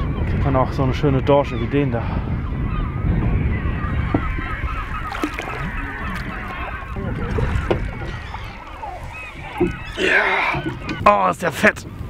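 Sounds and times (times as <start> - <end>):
seabirds calling: 0.0 - 12.0.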